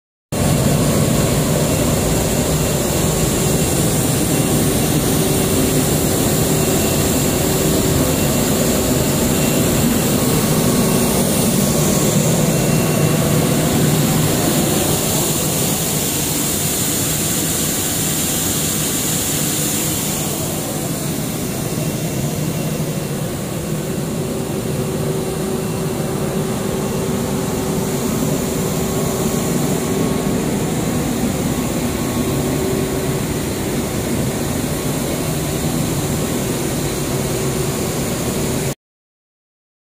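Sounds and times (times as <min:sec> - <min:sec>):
steady hums: 0:00.4 - 0:38.7
factory machinery drone: 0:00.4 - 0:38.8.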